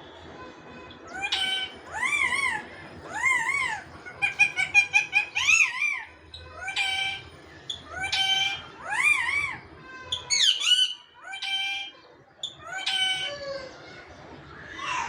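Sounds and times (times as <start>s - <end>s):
parrots calling: 0.9s - 13.8s.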